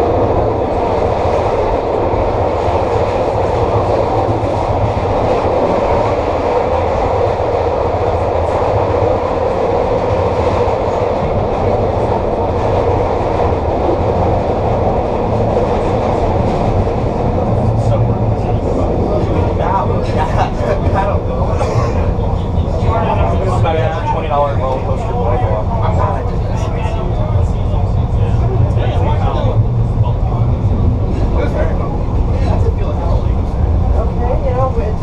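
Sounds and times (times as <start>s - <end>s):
light rail wheels rumbling: 0.0s - 35.0s.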